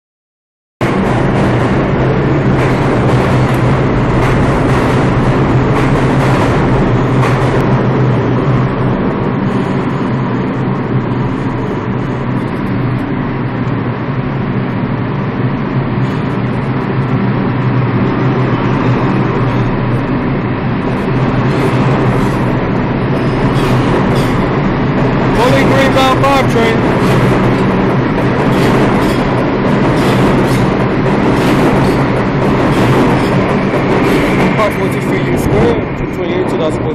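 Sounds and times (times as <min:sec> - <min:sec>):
subway train accelerating past: 0:00.8 - 0:36.9.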